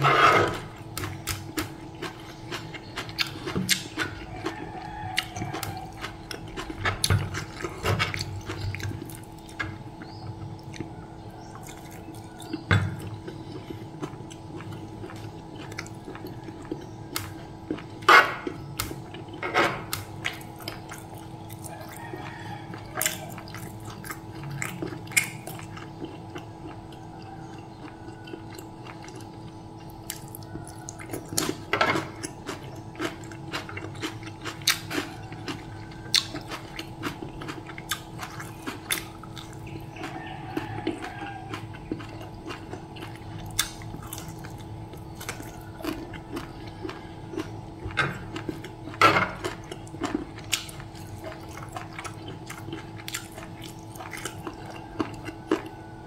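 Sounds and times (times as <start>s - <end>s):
chewing with wet mouth noises: 0.0s - 56.0s
steady low hum: 0.0s - 56.0s.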